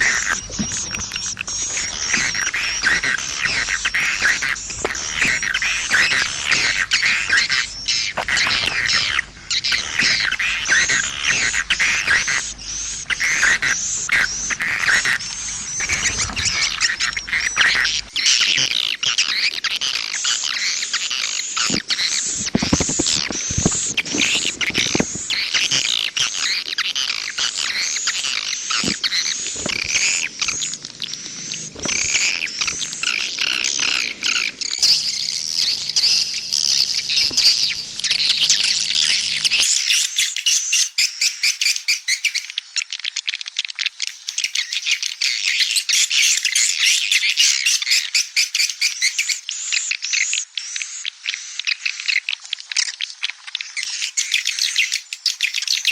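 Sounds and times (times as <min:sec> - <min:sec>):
swiftlets chirping and twittering: 0:00.0 - 0:42.8, 0:43.8 - 0:50.4, 0:53.7 - 0:55.9.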